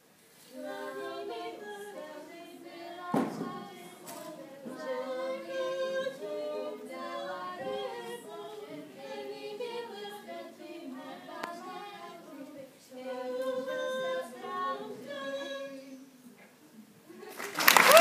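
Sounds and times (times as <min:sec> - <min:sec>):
group singing unaccompanied: 0:00.4 - 0:16.2.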